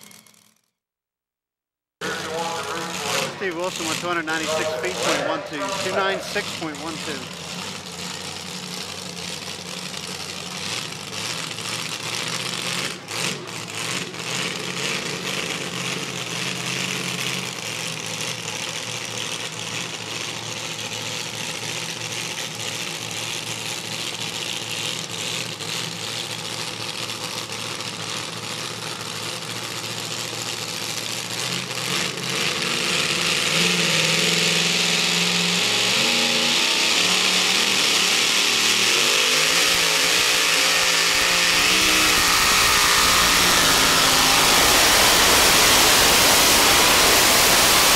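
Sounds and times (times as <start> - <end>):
racing truck engine: 2.0 - 47.9.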